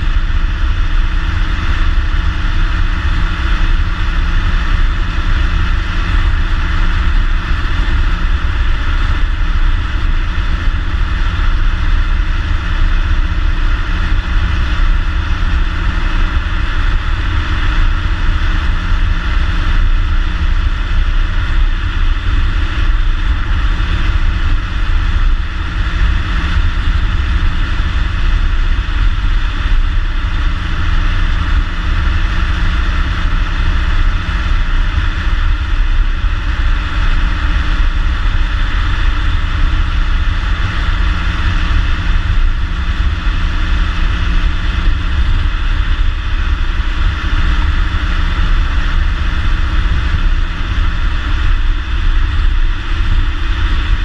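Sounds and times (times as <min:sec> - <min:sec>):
car engine rumble while driving: 0:00.0 - 0:54.0.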